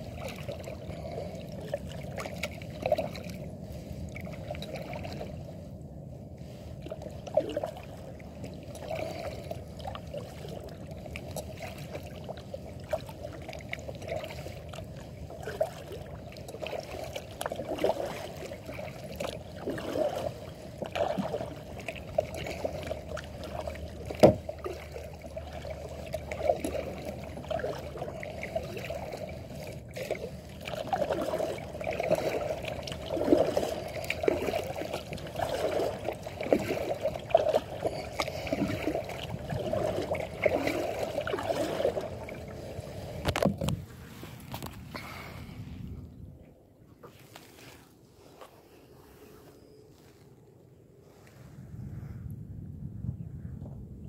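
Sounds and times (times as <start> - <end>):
paddle splashes: 0.0 - 5.6, 6.4 - 45.9, 47.0 - 50.2
water lapping at kayak hull: 0.0 - 52.3.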